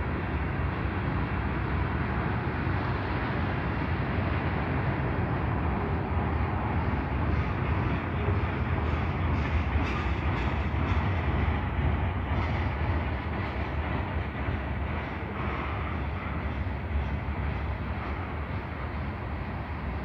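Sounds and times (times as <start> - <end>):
freight cars rumbling on rails: 0.0 - 20.0.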